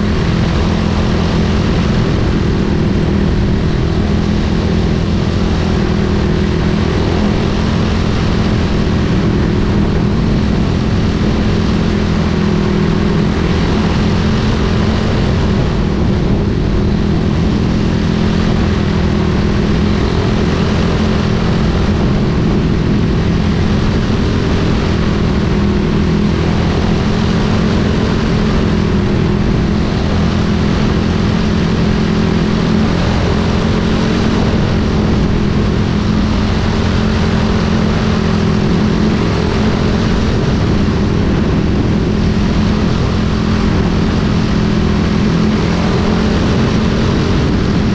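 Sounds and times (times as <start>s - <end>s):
kart engine at high revs: 0.0s - 47.9s
wind and tyre hiss: 0.0s - 47.9s.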